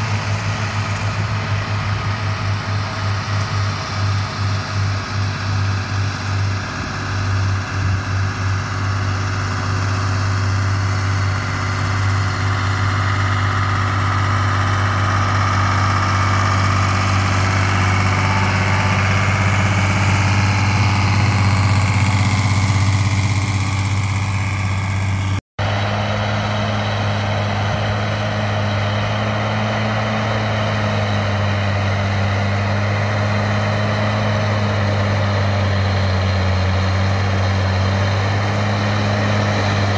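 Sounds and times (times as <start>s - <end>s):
diesel tractor engines under load: 0.0s - 39.9s.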